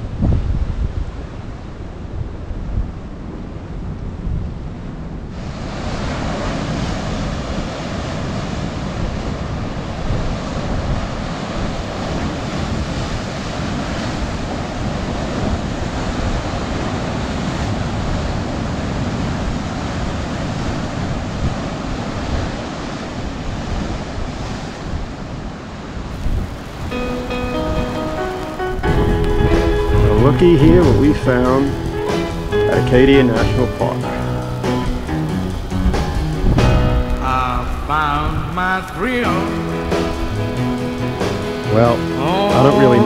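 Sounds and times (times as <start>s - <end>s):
wind buffeting microphone: 0.0s - 39.2s
surf breaking on rocky shore: 5.3s - 43.0s.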